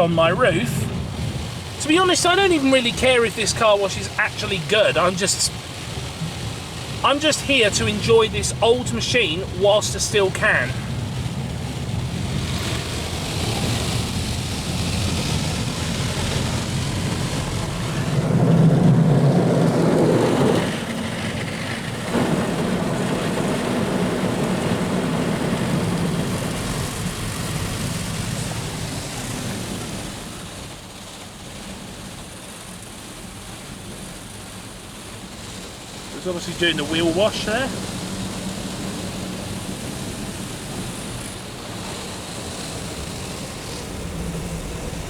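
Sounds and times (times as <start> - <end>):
car wash brushes and water spray: 0.0 - 45.0
car wash motors running: 0.0 - 45.0.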